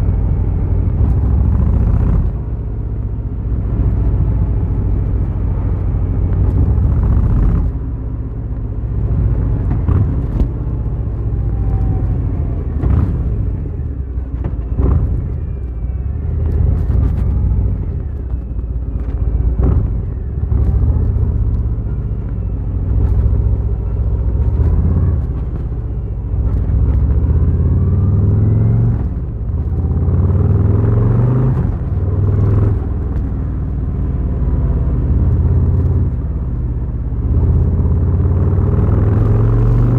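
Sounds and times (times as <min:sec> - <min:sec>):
motorcycle engine rumbling: 0:00.0 - 0:39.3.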